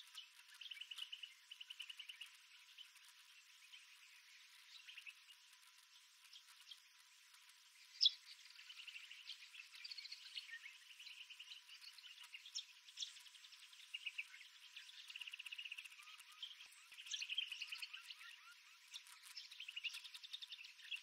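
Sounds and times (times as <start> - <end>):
birds chirping and trilling: 0.0 - 21.0.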